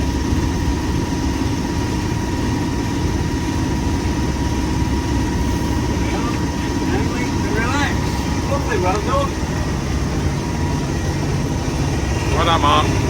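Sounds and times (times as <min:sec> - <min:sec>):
diesel train engine rumbling: 0:00.0 - 0:13.0
high-pitched whine: 0:00.0 - 0:13.0.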